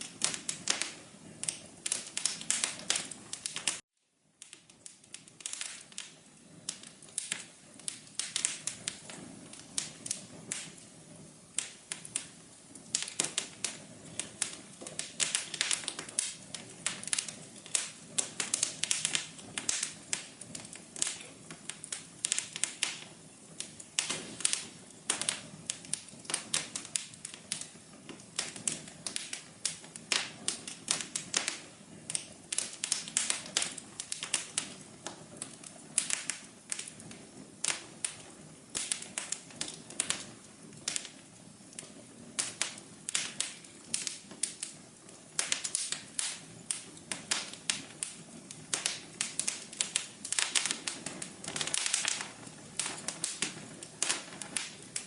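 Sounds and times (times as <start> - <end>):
fire crackling and popping: 0.0 - 55.0
soft hiss of burning: 0.0 - 55.0.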